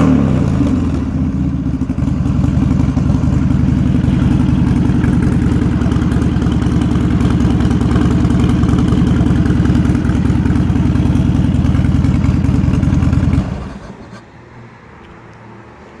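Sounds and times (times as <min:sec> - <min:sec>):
motorcycle engine idling: 0:00.0 - 0:14.2.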